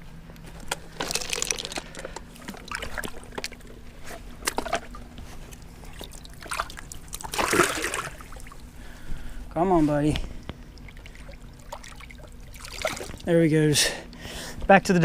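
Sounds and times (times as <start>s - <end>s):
faint low hum: 0.0s - 15.0s
water sloshing and splashing: 0.9s - 13.4s.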